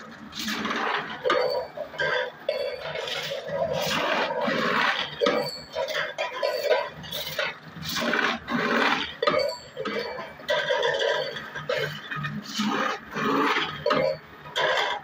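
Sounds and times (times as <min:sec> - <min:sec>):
machine squeals: 0:00.3 - 0:15.0.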